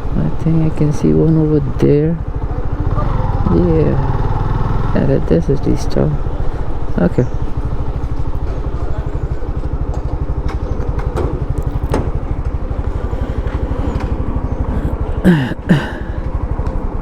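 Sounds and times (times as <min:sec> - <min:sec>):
motorcycle engine running at low revs: 0:00.0 - 0:15.3, 0:16.0 - 0:17.0.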